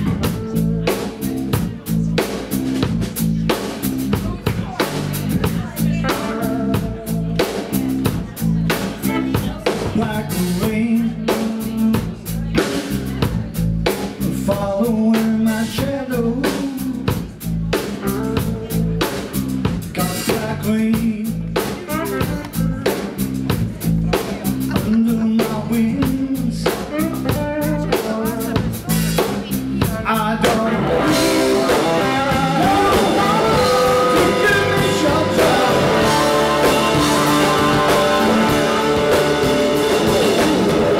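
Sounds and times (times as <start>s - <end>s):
blues-rock band playing live: 0.0s - 40.9s.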